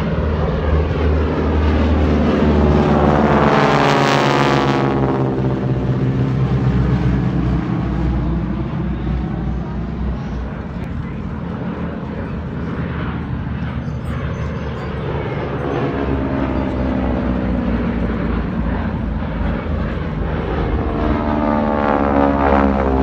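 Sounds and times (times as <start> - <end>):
propeller planes flying by: 0.0 - 23.0.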